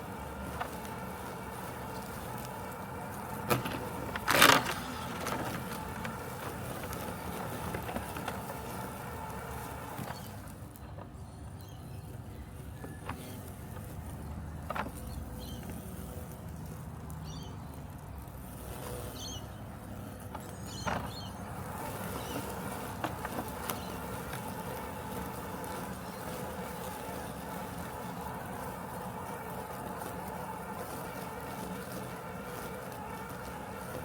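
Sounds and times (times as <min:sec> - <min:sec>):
robotic lawn mower humming: 0:00.0 - 0:34.0.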